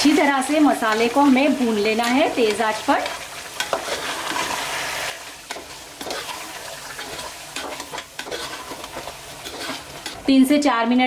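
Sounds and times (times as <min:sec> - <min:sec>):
food sizzling in hot oil: 0:00.0 - 0:11.0
metal spatula scraping pot: 0:00.2 - 0:10.3.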